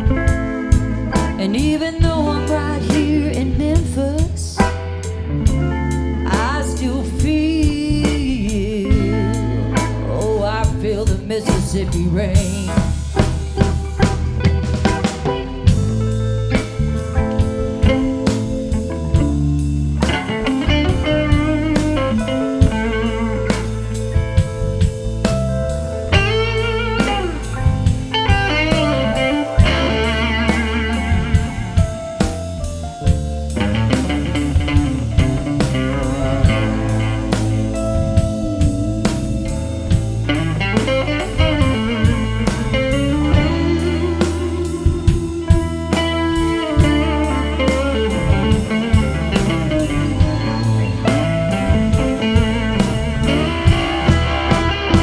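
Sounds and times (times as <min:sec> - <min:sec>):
bass guitar: 0:00.0 - 0:55.0
electric guitar lead with vibrato: 0:00.0 - 0:55.0
steady drum beat: 0:00.0 - 0:55.0.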